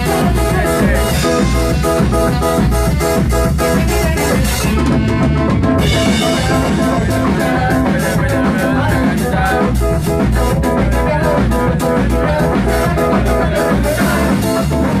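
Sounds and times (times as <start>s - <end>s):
bass guitar: 0.0s - 15.0s
drum kit: 0.0s - 15.0s
live band playing: 0.0s - 15.0s.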